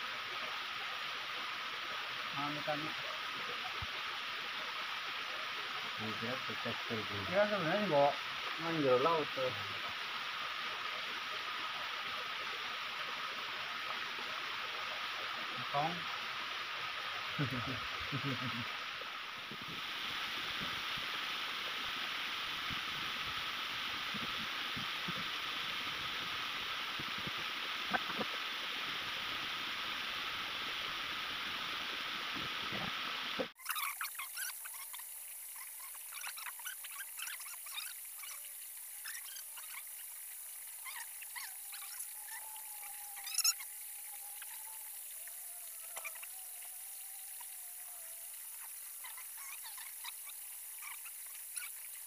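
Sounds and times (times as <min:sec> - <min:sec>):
waterfall splashing onto rocks: 0:00.0 - 0:52.0.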